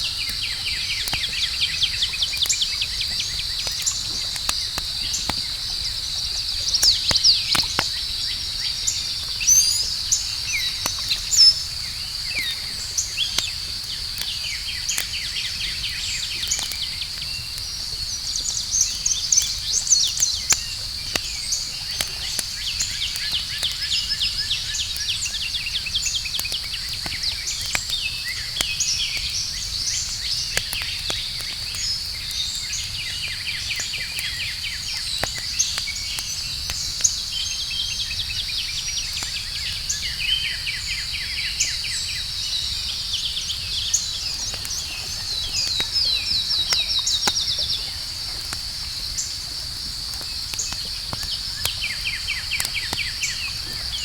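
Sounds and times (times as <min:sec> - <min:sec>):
campfire crackling and popping: 0:00.0 - 0:54.0
night insects chorus: 0:00.0 - 0:54.0.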